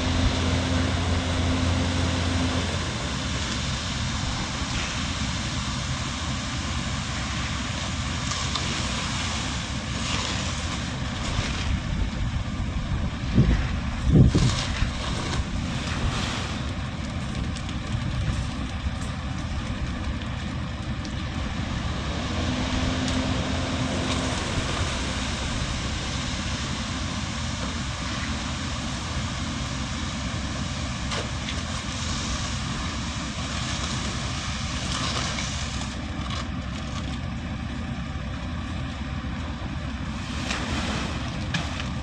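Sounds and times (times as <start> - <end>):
steady hum: 0.0 - 42.0
truck engine running: 0.0 - 42.0.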